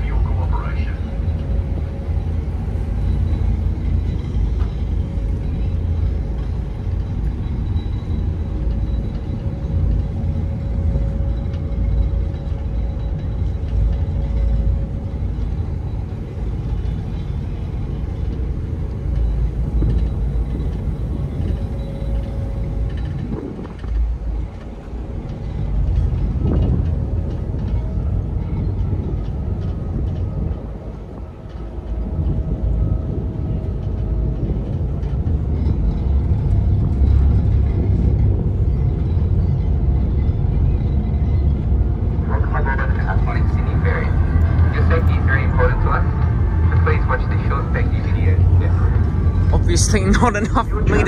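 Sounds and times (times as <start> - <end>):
ferry engines rumbling: 0.0 - 51.0
wind gusting on microphone: 0.0 - 51.0.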